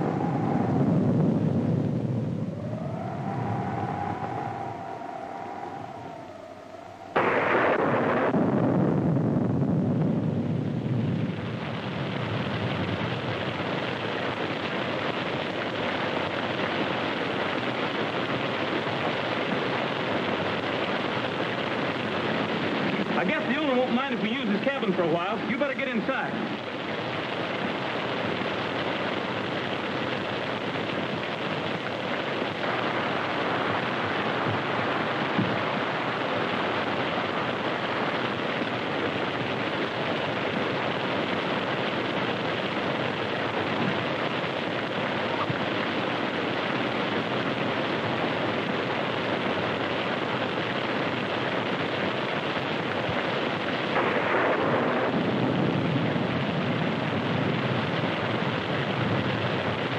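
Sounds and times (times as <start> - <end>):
heavy wind-driven rain: 0.0 - 59.9.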